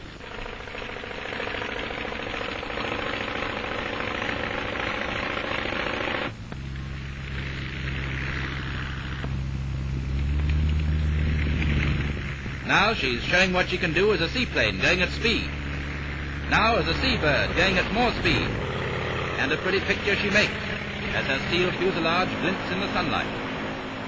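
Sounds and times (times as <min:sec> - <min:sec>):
deep steady hum: 0:00.0 - 0:24.0
propeller aircraft engine drone: 0:00.0 - 0:24.0.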